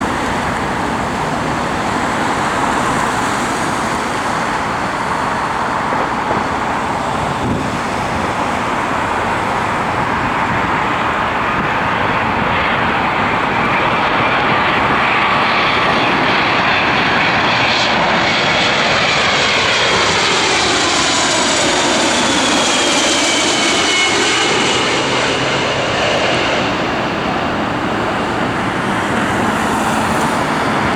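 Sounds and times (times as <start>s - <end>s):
jet plane flying over: 0.0s - 30.9s.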